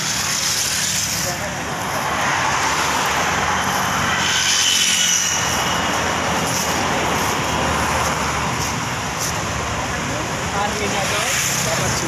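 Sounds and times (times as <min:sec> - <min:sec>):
road traffic noise: 0:00.0 - 0:12.0
vehicle passing: 0:00.0 - 0:12.0.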